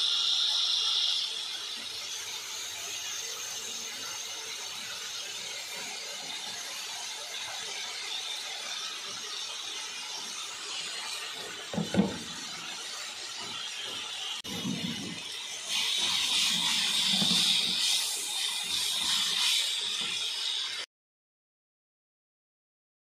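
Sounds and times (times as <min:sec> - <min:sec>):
food sizzling in a wok: 0:00.0 - 0:20.9.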